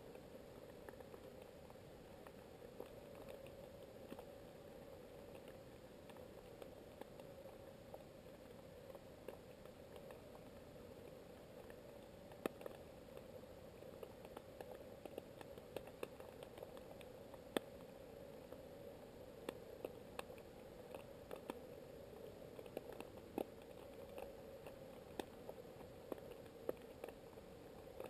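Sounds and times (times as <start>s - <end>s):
steady low hum: 0.0s - 28.0s
underwater clicks and crackles: 0.0s - 28.0s.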